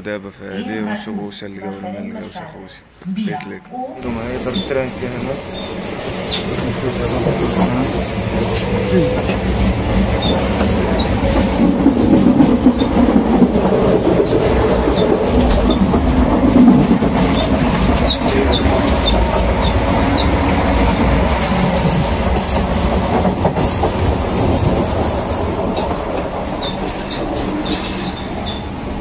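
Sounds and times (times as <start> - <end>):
train running rumble: 4.0 - 29.0
wheels clacking over rails: 4.1 - 29.0.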